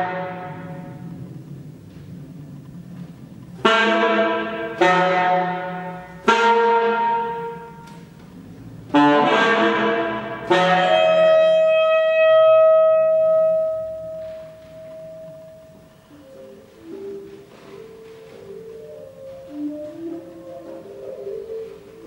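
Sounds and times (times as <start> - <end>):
saxophone: 0.0 - 1.3, 3.5 - 22.0
piano: 0.0 - 22.0.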